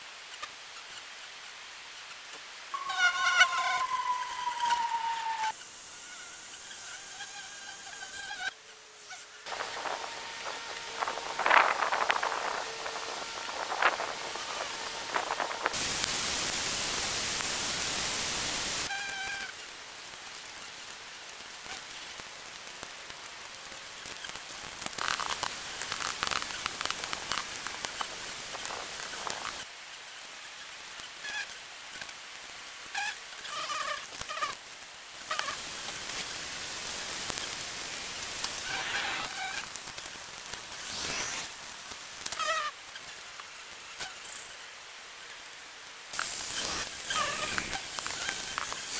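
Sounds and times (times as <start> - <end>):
steady hiss: 0.0 - 48.9.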